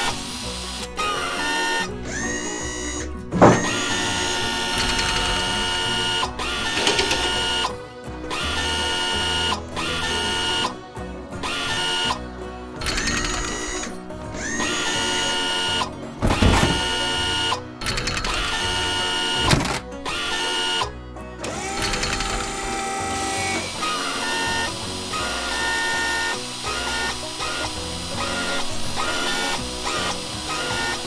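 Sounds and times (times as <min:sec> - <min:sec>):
power drill whirring: 0:00.0 - 0:10.8, 0:11.4 - 0:12.2, 0:12.8 - 0:31.0
background music: 0:00.0 - 0:31.0.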